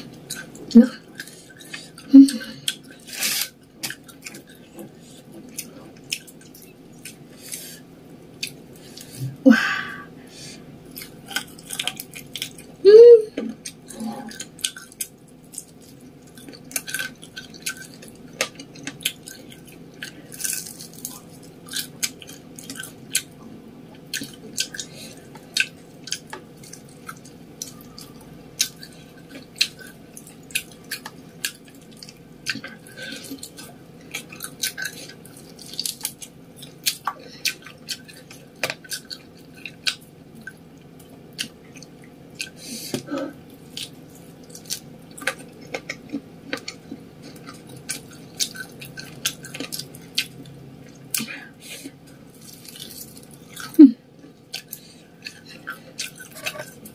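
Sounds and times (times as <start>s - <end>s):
chewing fried chicken: 0.0s - 9.4s, 10.2s - 56.9s.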